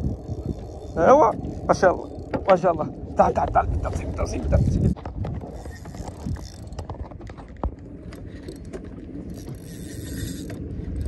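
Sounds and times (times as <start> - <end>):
fishing reel clicking: 0.0 - 6.9, 8.0 - 11.0
water: 0.0 - 11.0
wind: 0.0 - 11.0.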